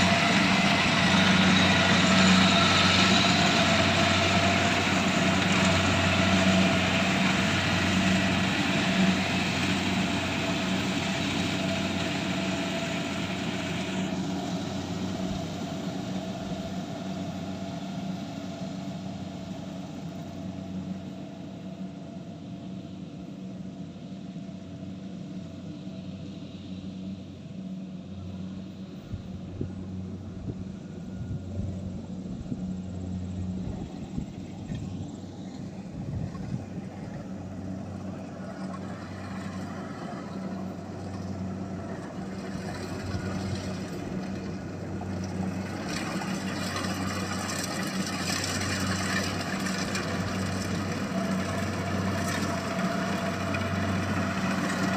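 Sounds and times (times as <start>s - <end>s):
harvesting machine engine humming: 0.0s - 54.9s.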